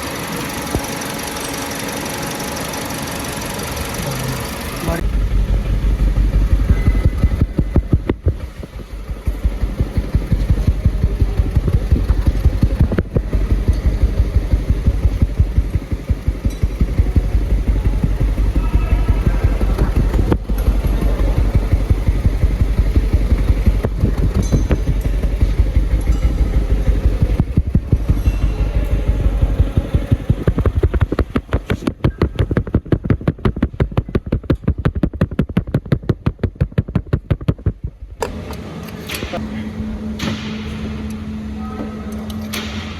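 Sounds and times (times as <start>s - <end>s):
engine running roughly with misfire: 0.0s - 41.6s.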